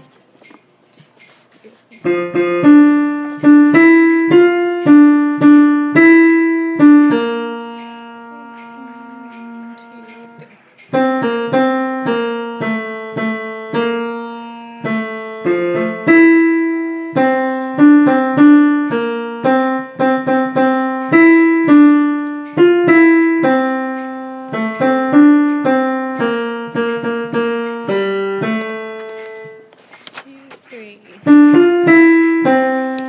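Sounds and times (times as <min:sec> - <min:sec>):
piano melody of struck notes: 0:02.0 - 0:29.7, 0:31.2 - 0:33.0.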